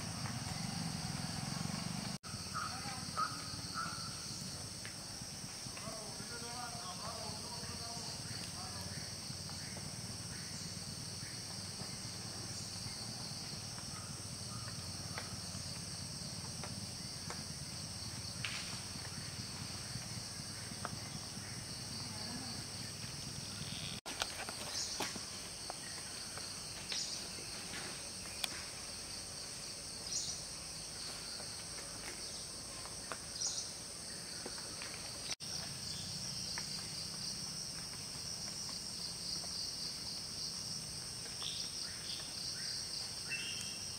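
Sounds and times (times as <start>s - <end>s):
insects chorus: 0.0s - 43.9s.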